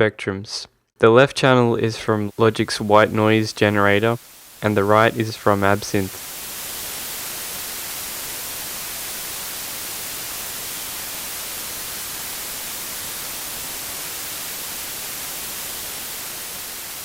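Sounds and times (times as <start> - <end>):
synthesized white noise hiss: 1.0 - 17.0.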